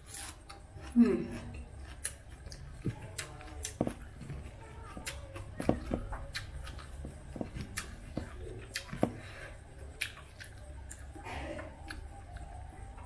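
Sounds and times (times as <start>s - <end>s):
low steady hum: 0.0s - 13.0s
mouth smacks and chewing: 0.1s - 13.0s.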